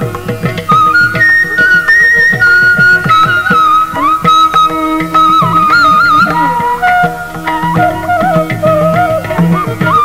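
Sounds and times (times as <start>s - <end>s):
drum strokes with falling pitch: 0.0s - 10.0s
melody with gliding ornaments: 0.0s - 10.0s.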